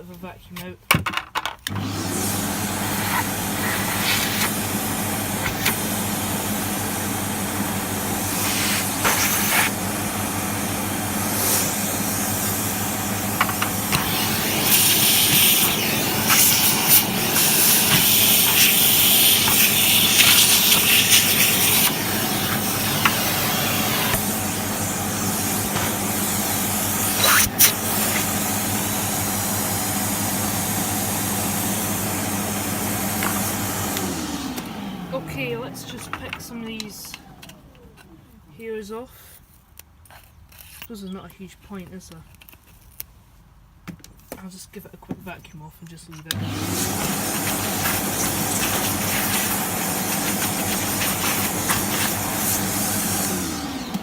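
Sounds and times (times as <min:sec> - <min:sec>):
vacuum cleaner running: 0:01.7 - 0:38.4, 0:46.3 - 0:54.0.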